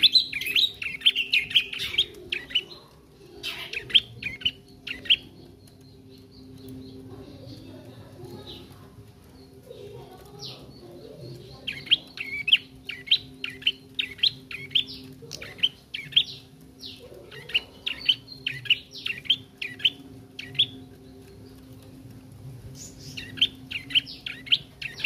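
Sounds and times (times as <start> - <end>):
young bird chirping: 0.0 - 25.0.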